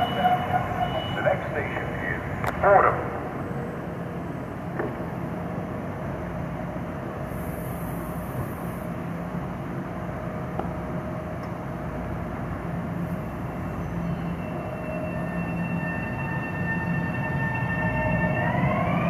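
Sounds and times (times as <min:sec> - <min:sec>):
faint high whine of train: 0:00.0 - 0:19.0
train equipment hum: 0:00.0 - 0:19.0.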